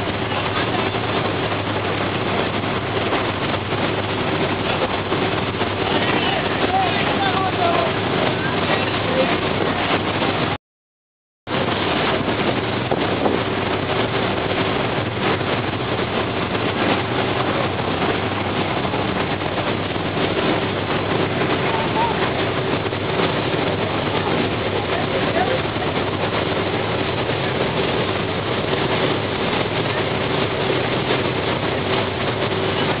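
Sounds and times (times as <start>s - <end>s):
churning water: 0.0s - 10.6s, 11.5s - 33.0s
low engine hum: 0.0s - 10.6s, 11.5s - 33.0s
wind on the microphone: 0.0s - 10.6s, 11.5s - 33.0s.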